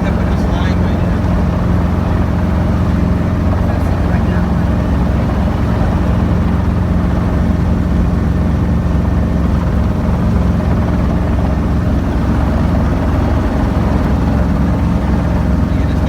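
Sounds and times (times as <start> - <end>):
helicopter engine and rotor: 0.0 - 16.0.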